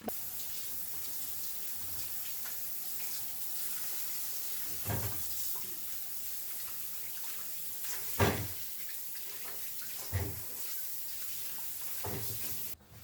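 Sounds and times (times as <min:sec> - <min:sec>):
tap water running into sink: 0:00.1 - 0:12.8.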